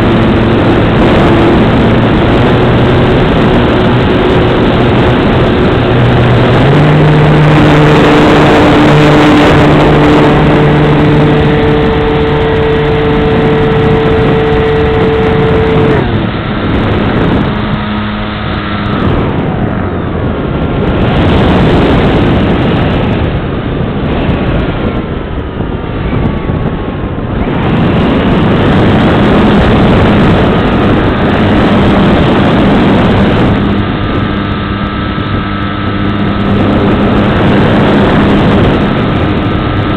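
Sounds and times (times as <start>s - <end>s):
model airplane engine and propeller: 0.0s - 39.9s
wind noise rushing: 0.0s - 39.9s.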